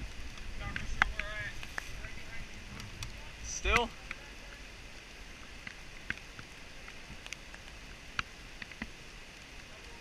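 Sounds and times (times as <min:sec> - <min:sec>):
light rain falling: 0:00.0 - 0:10.0
raindrops ticking close by: 0:00.0 - 0:10.0.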